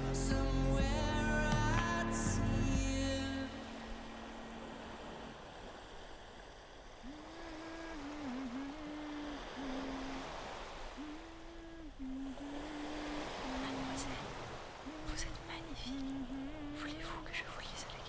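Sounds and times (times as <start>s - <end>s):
person humming a slow tune: 0.0s - 5.4s, 7.0s - 17.7s
surf: 0.0s - 18.0s.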